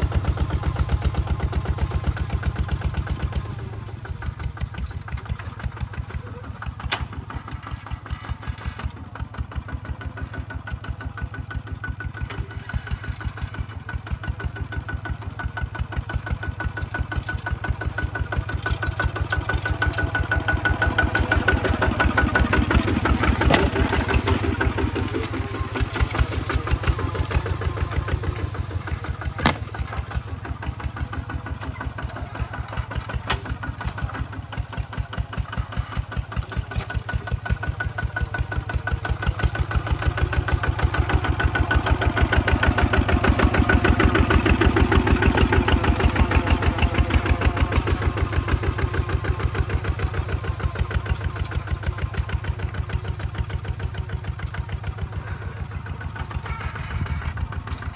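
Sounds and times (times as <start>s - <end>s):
diesel tractor engine running: 0.0s - 57.9s.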